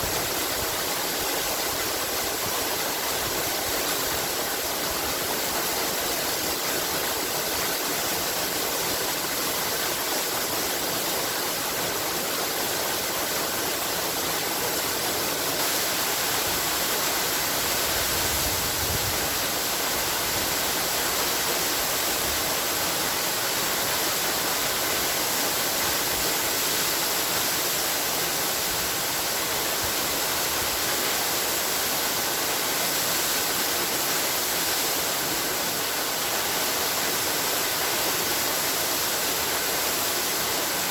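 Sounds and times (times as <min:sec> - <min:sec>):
waterfall pouring and splashing: 0:00.0 - 0:40.9.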